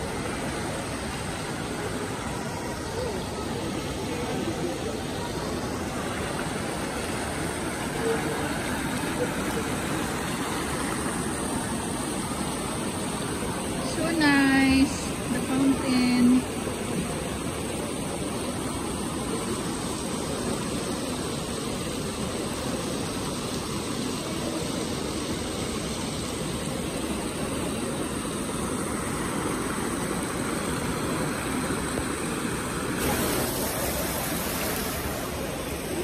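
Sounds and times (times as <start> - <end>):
fountain water splashing: 0.0 - 36.0.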